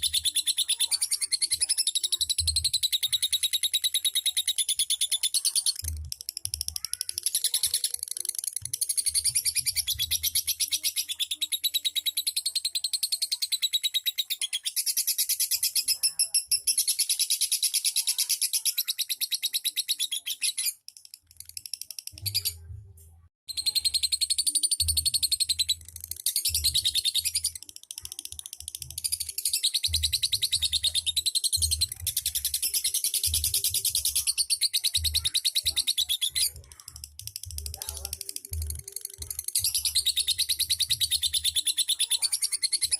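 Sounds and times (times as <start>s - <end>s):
bird chattering trills: 0.0s - 22.5s, 23.5s - 42.9s.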